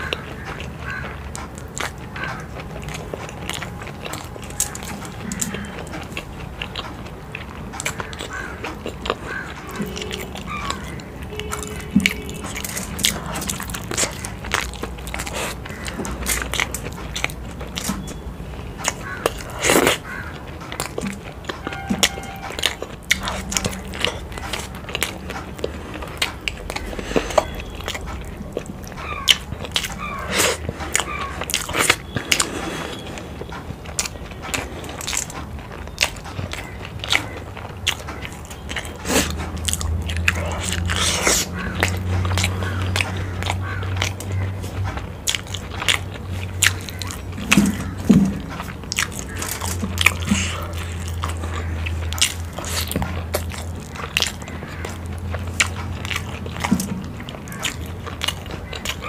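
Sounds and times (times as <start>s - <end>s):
chewing and wet mouth sounds: 0.0s - 59.0s.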